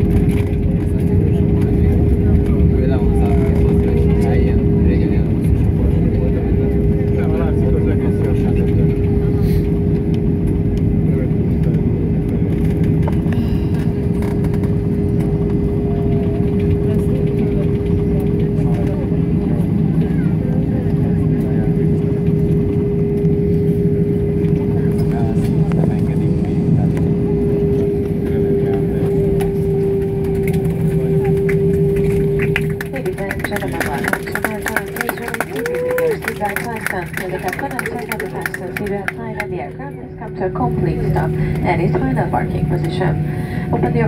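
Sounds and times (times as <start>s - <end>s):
constant hum: 0.0s - 44.0s
rumble of engines and wheels: 0.0s - 44.0s.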